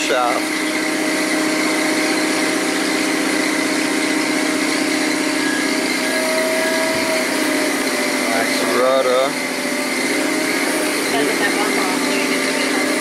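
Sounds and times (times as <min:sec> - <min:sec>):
boat lift engine humming: 0:00.0 - 0:13.0
high-pitched whine: 0:00.0 - 0:13.0.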